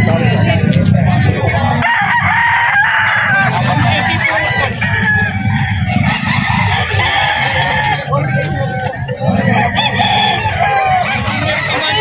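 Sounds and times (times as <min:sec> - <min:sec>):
chickens clucking: 0:00.0 - 0:12.0
low background rumble: 0:00.0 - 0:12.0
roosters crowing: 0:00.0 - 0:12.0.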